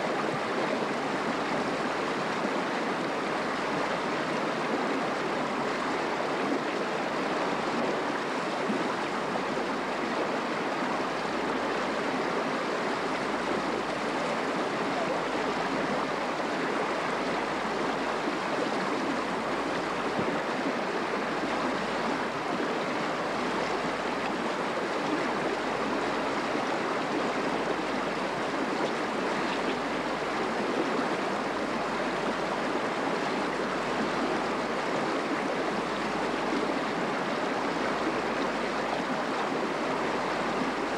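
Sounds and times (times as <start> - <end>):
river running over rocks: 0.0 - 40.9.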